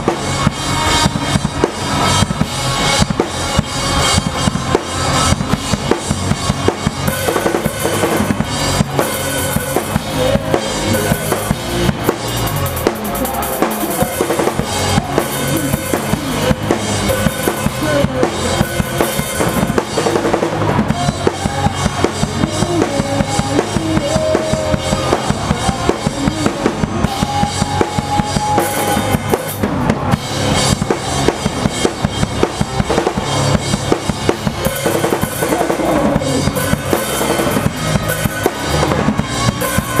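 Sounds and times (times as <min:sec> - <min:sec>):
drum kit fast beat: 0:00.0 - 0:40.0.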